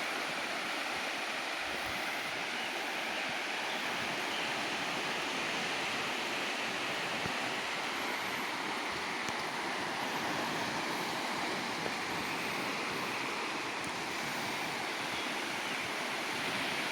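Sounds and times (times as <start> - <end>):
river water rushing: 0.0 - 16.9.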